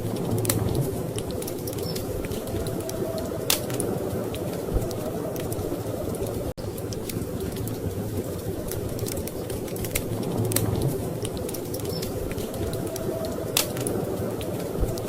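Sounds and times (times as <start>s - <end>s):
storm wind rushing: 0.0s - 15.0s
wood fire crackling and popping: 0.0s - 15.0s.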